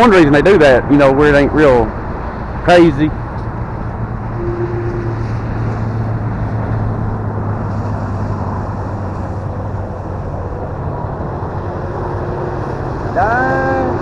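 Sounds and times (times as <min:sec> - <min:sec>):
rushing noise: 0:01.9 - 0:14.0.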